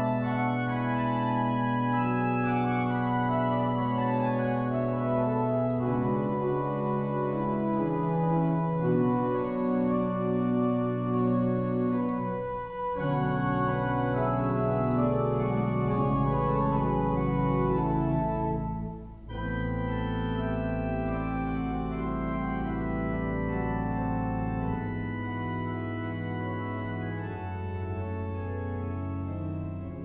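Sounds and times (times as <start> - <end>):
deep organ pedal bass: 0.0 - 30.0
pipe organ chords: 0.0 - 30.0.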